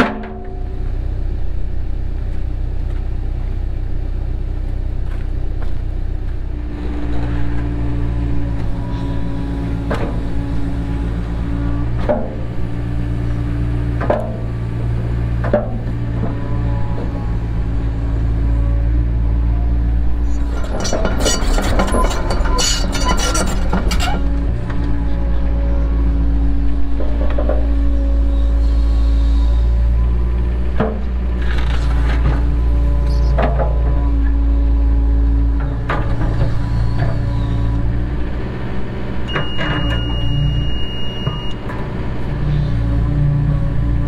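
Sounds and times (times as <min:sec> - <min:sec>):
excavator engine and hydraulics: 0:00.0 - 0:44.0.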